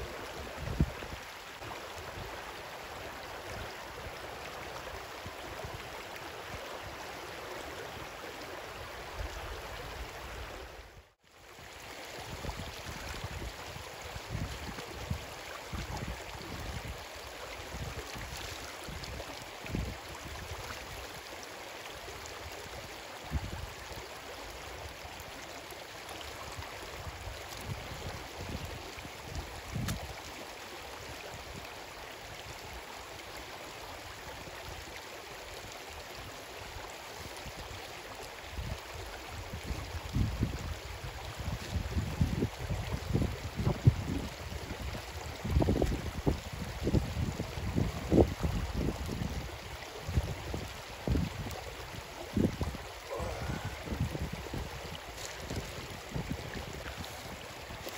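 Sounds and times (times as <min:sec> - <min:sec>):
stream running over stones: 0:00.0 - 0:57.9.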